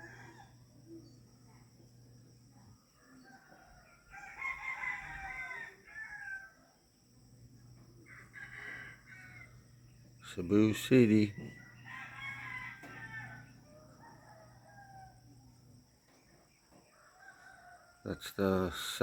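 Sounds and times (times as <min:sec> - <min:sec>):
roosters crowing: 0:00.0 - 0:19.0.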